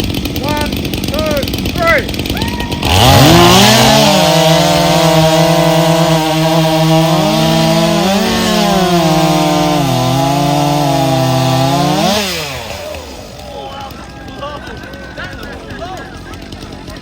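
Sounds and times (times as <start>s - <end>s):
chainsaw cutting through log: 0.0s - 17.0s.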